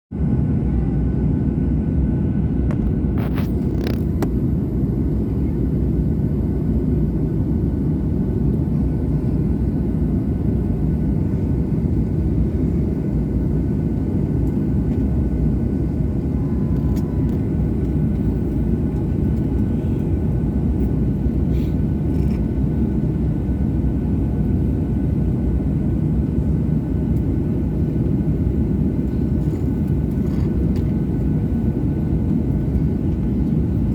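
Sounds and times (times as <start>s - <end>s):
airliner engines rumbling in cabin: 0.2s - 33.9s.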